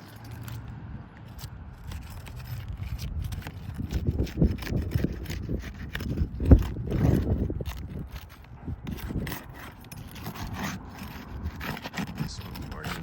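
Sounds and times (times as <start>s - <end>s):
tool scraping roof shingle: 0.0s - 13.0s.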